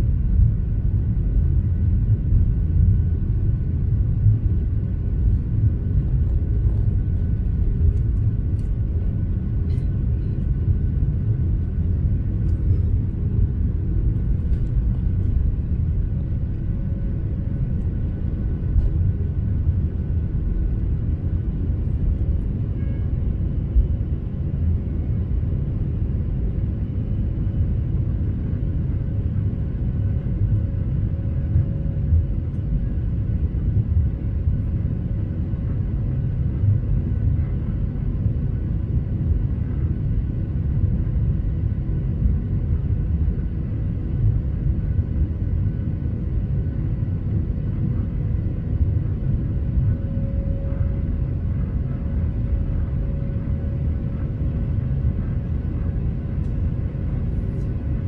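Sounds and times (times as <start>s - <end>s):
faint jet engine whine: 0.0s - 58.0s
jet engine drone in cabin: 0.0s - 58.0s.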